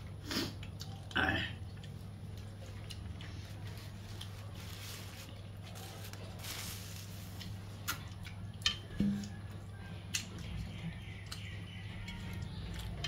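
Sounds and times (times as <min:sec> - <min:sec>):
wet chewing: 0:00.0 - 0:06.4, 0:07.3 - 0:13.0
food squishing: 0:00.0 - 0:13.0.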